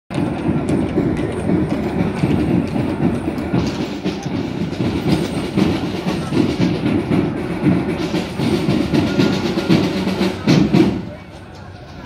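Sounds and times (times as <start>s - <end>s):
cart wheels rumbling: 0.1s - 12.0s
hooves clopping on bricks: 0.1s - 12.0s.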